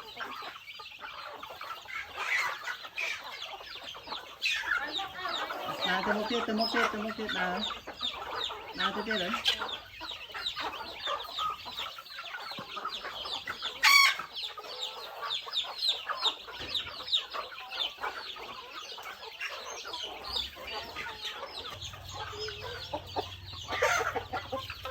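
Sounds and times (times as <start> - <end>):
chickens calling: 0.0 - 24.9.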